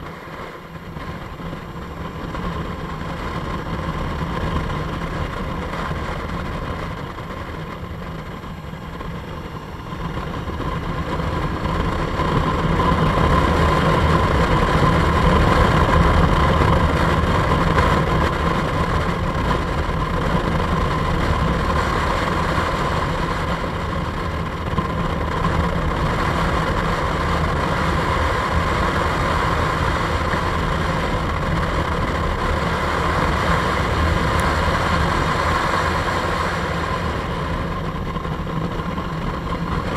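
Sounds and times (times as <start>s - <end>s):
motorcycle engine running: 0.0s - 39.9s
steady high whine: 0.0s - 39.9s.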